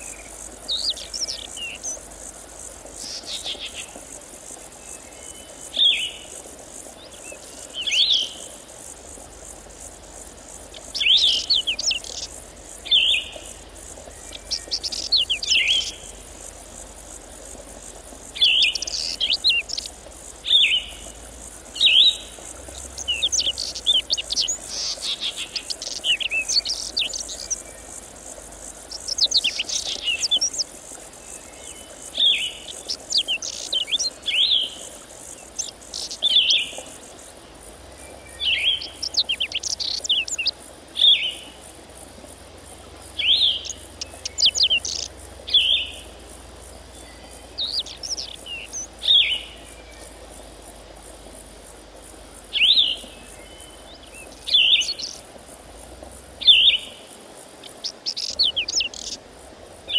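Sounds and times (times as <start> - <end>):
songbird chirping: 0.0 - 37.2, 38.0 - 41.5, 43.0 - 50.6, 52.4 - 55.2, 56.4 - 59.2
insects hissing: 0.0 - 59.9.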